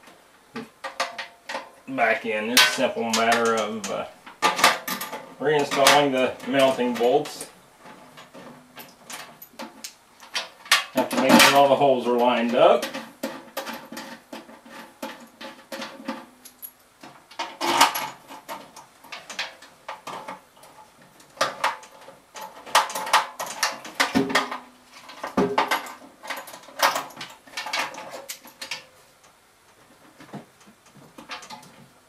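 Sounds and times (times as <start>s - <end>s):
metal clinks and rattles: 2.5s - 11.8s, 12.5s - 31.8s.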